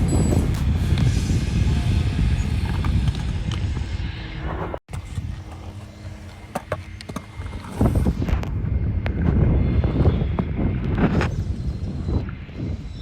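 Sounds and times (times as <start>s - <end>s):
skateboard wheels rolling on concrete: 0.0s - 12.9s.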